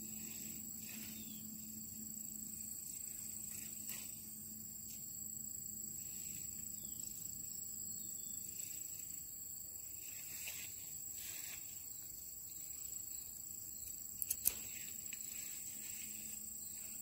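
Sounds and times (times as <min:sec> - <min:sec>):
insects droning: 0:00.0 - 0:17.0
outdoor background noise: 0:00.0 - 0:17.0.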